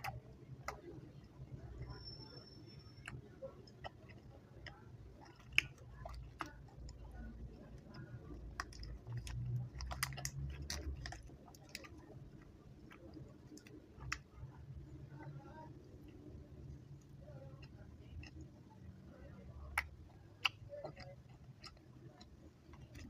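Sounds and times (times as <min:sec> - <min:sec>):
mouth chewing candy: 0:00.0 - 0:23.0.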